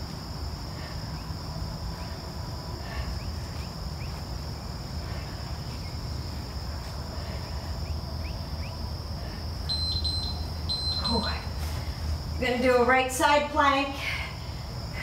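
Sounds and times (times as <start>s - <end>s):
insects trilling: 0.0s - 15.0s
low steady hum: 0.0s - 15.0s.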